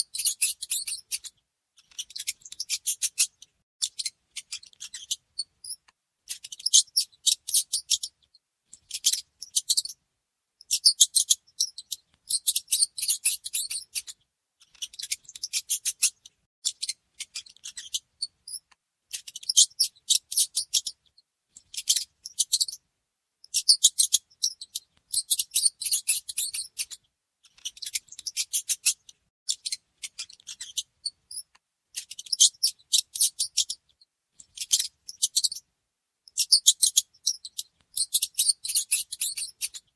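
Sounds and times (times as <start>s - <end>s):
mice squeaking: 0.0s - 10.0s, 10.6s - 22.8s, 23.4s - 35.6s, 36.3s - 39.9s.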